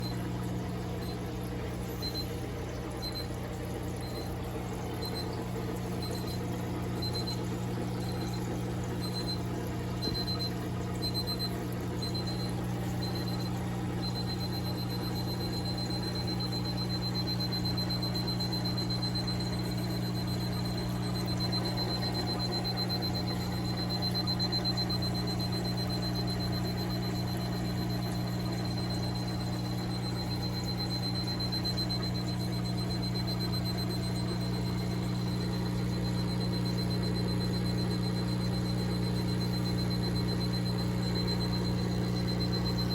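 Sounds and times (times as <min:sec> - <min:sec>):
aquarium equipment humming: 0:00.0 - 0:42.9.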